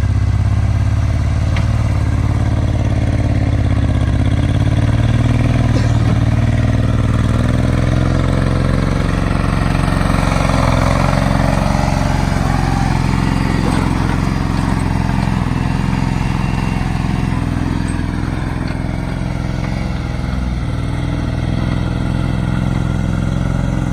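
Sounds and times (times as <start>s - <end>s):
diesel engine running steadily: 0.0s - 23.9s.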